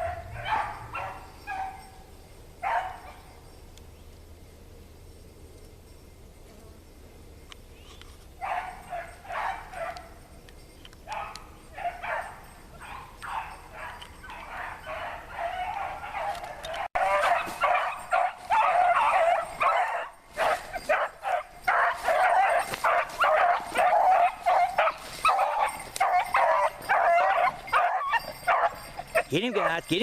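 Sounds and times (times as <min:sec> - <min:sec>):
hounds baying: 0:00.0 - 0:03.8, 0:08.4 - 0:30.0.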